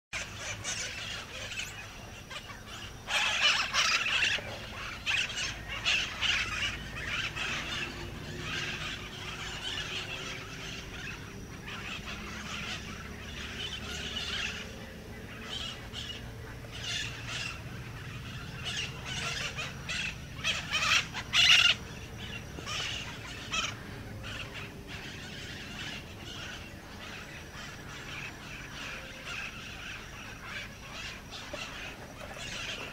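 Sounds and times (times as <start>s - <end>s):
parakeet calls: 0.2s - 32.9s.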